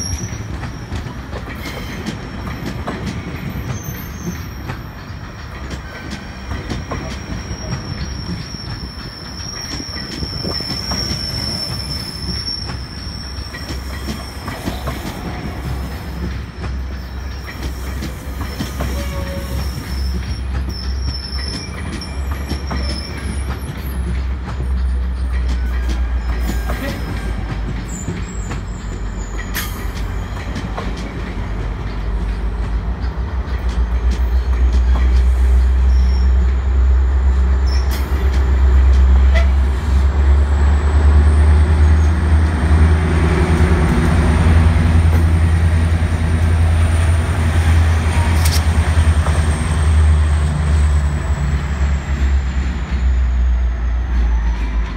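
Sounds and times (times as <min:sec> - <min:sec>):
train coaches rumbling past: 0:00.0 - 0:54.9.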